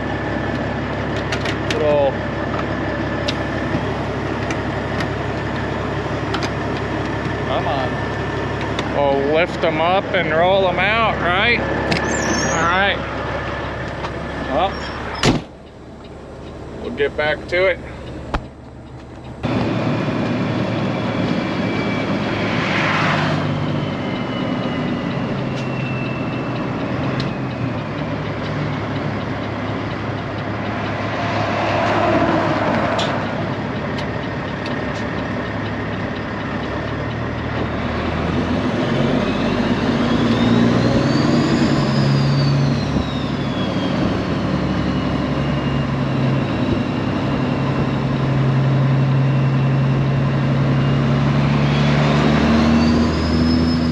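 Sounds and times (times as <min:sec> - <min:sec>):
high whine: 0:00.0 - 0:53.9
truck diesel engine running: 0:00.0 - 0:53.9.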